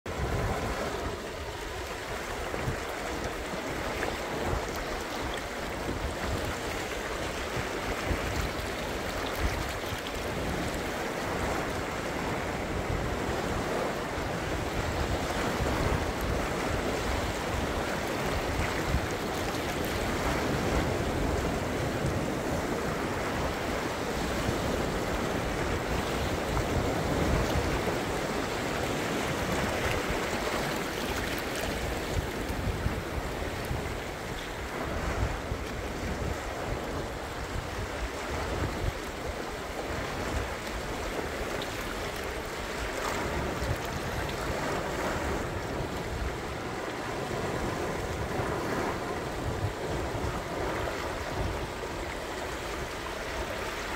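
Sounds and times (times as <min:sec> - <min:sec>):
waves splashing on rocky shore: 0:00.1 - 0:53.9
wind buffeting microphone: 0:00.1 - 0:53.9.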